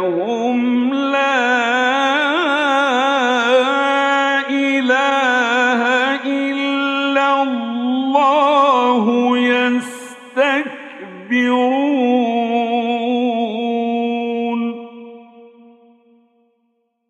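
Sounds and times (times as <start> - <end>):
man chanting melodic recitation: 0.0 - 15.2.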